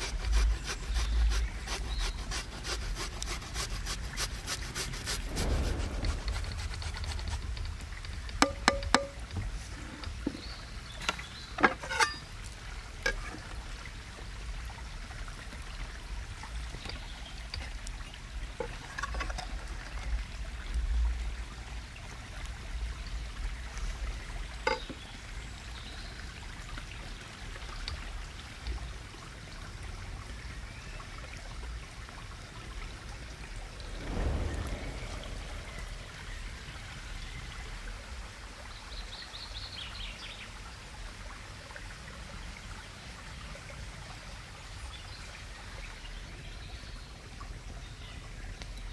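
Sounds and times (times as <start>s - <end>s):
outdoor background noise: 0.0s - 48.9s.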